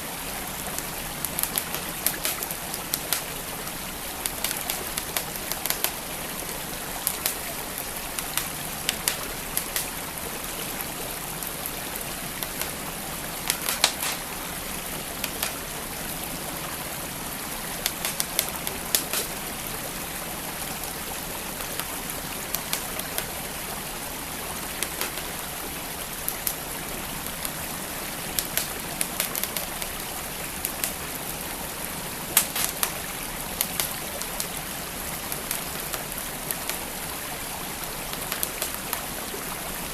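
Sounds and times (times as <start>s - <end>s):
flowing stream: 0.0s - 39.9s
wood fire crackling: 0.0s - 39.9s.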